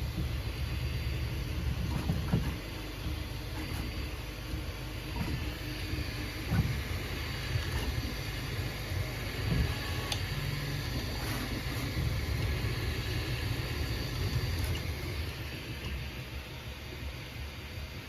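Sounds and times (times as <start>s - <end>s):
three d printers rumbling: 0.0s - 17.9s.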